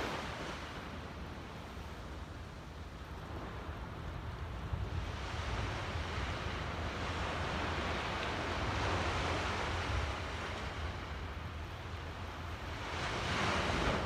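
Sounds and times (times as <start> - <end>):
small waves washing up a beach: 0.0 - 14.0
wind rumbling on microphone: 0.0 - 14.0.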